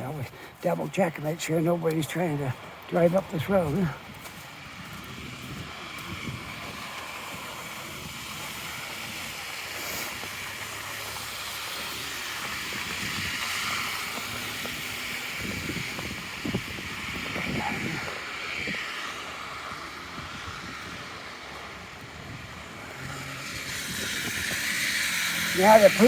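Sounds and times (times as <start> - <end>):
car tyres on slushy snow: 0.0 - 26.0
footsteps crunching in snow: 0.0 - 26.0
wind hiss: 2.6 - 26.0.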